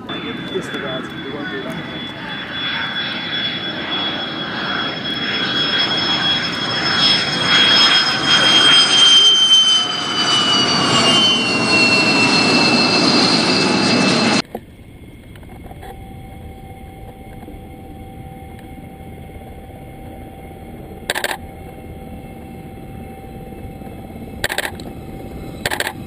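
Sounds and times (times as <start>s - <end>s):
jet engine rushing and whining: 0.0s - 26.0s.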